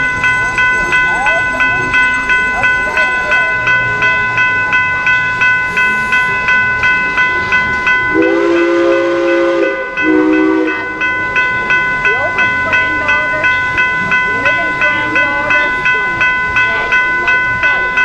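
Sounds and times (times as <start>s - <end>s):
crossing bell ringing: 0.0s - 18.0s
train chime horn: 0.0s - 18.0s.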